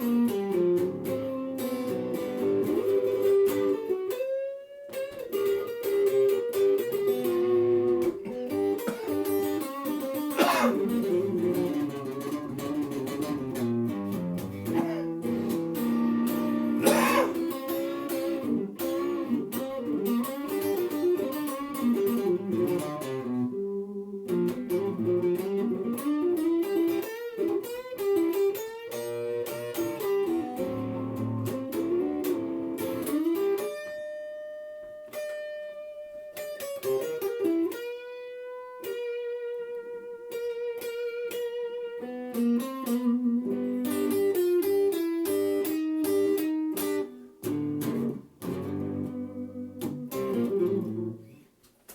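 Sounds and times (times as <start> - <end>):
blues electric guitar solo: 0.0 - 51.5.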